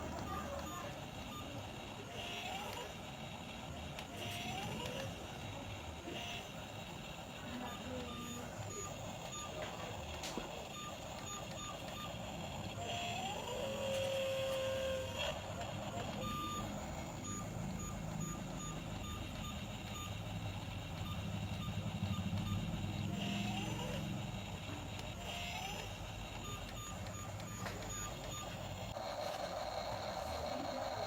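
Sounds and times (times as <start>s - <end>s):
low engine running: 0.0s - 31.0s
truck reversing alarm beeping: 0.0s - 31.0s.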